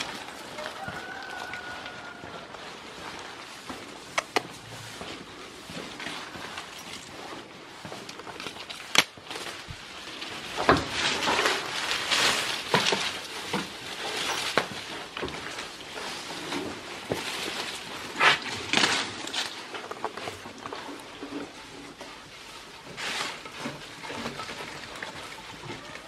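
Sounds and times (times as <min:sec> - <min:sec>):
leafy branches rustling: 0:00.0 - 0:26.0.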